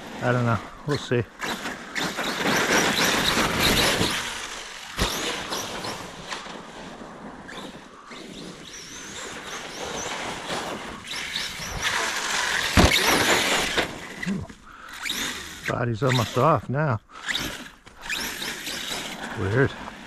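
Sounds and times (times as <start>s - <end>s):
rc truck rushing through snow: 0.0s - 20.0s.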